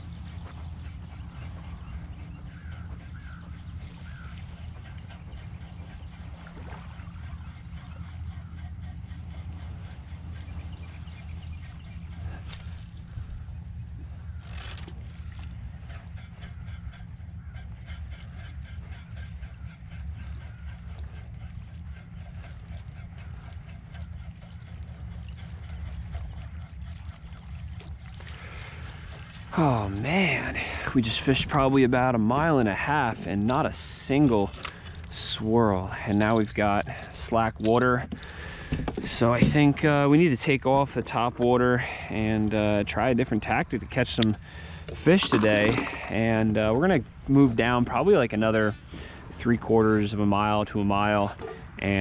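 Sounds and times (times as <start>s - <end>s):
wind rumbling on microphone: 0.0s - 52.0s.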